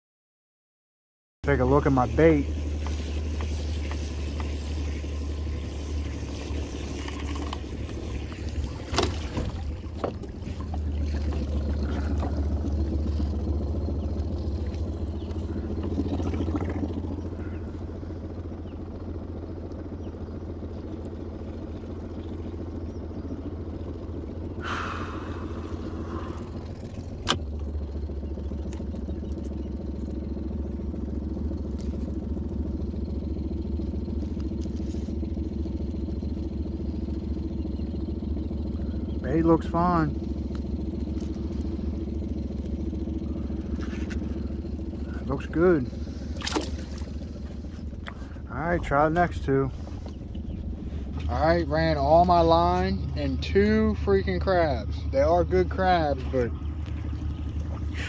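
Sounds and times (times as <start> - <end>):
outboard motor idling: 1.4 - 58.0.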